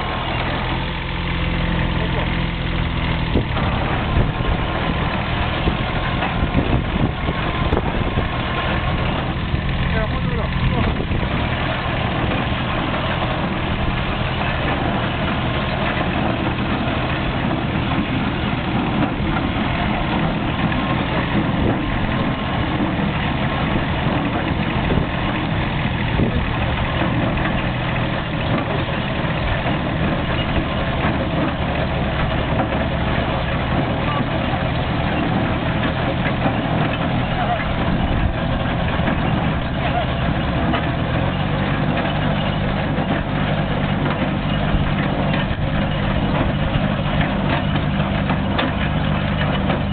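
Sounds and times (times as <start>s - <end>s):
diesel tractor engine: 0.0s - 49.9s.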